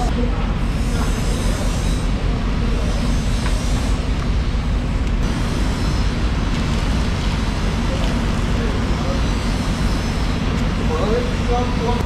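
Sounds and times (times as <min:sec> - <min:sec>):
low machine hum and rumble: 0:00.0 - 0:12.0.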